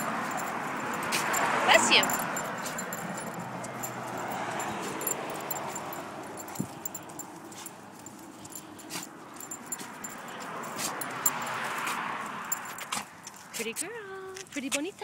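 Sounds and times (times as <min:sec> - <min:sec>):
dog collar tags jingling: 0:00.0 - 0:15.0.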